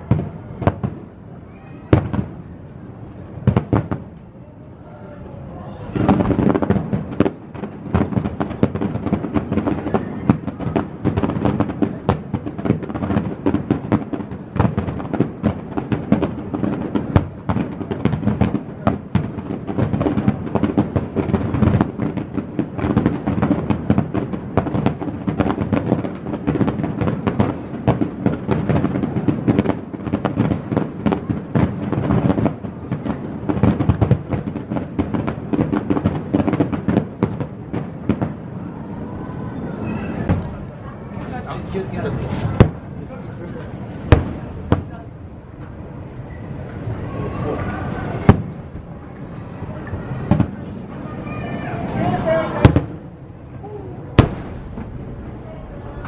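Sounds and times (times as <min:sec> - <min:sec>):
fireworks booming and crackling: 0:00.0 - 0:56.0.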